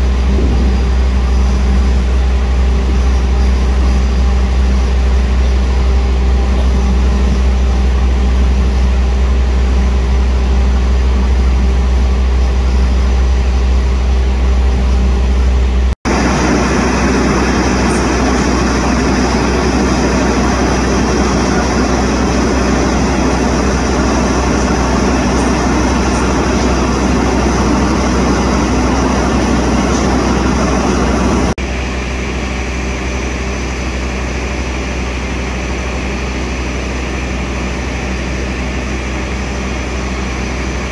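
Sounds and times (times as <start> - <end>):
approaching locomotive rumble: 0.0 - 36.2
diesel locomotive engine drone: 0.0 - 40.9.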